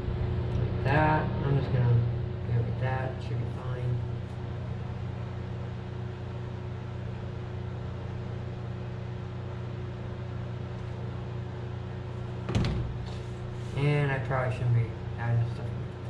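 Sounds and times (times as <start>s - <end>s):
faint constant tone: 0.0s - 16.0s
steady low hum: 0.0s - 16.0s.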